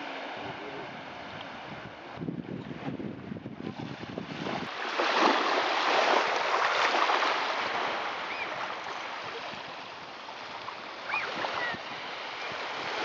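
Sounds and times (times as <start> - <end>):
small waves lapping on shore: 0.0 - 13.0.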